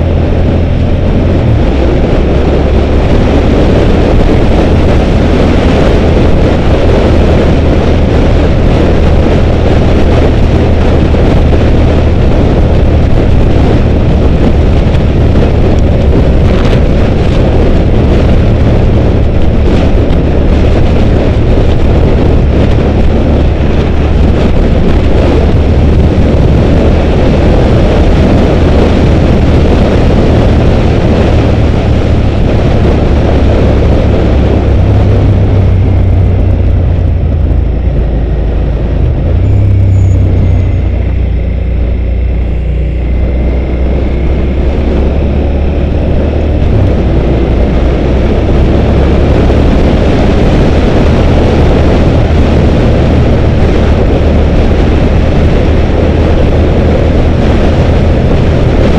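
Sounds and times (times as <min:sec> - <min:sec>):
motorcycle engine cruising: 0:00.0 - 0:58.9
wind noise on microphone: 0:00.0 - 0:58.9.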